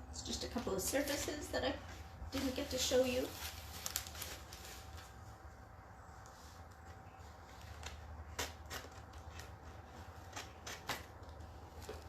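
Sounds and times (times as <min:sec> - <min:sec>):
low steady hum: 0:00.0 - 0:12.0
handling packaging and boards: 0:00.6 - 0:05.5, 0:06.2 - 0:12.0.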